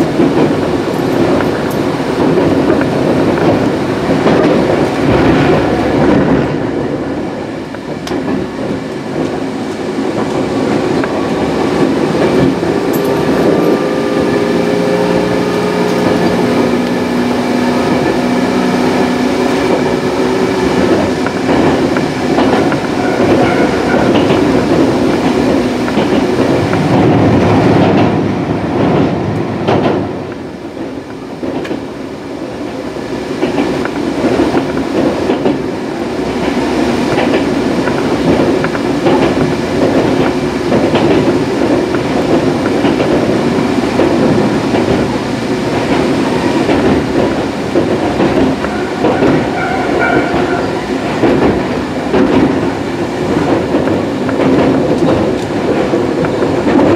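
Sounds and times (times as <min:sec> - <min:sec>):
train wheels rumbling on track: 0:00.0 - 0:56.9.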